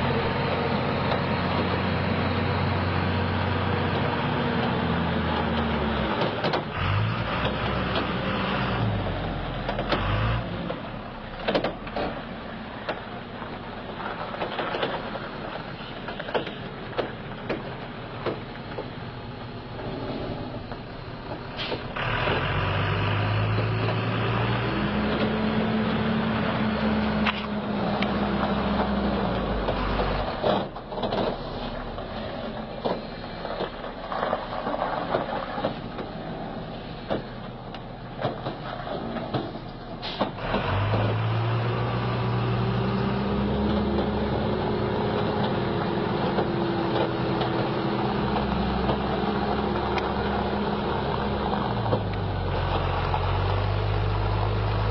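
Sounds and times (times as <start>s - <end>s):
heavy truck engine pulling: 0.0s - 54.9s.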